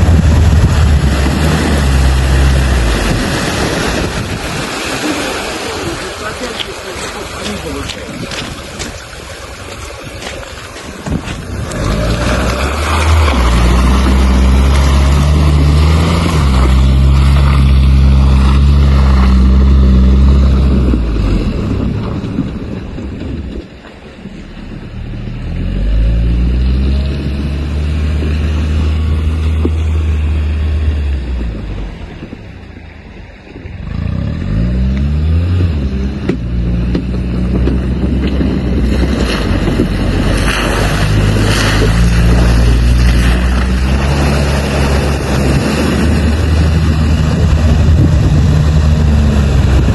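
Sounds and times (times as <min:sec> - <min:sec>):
vehicle engine running under load: 0:00.0 - 0:49.9.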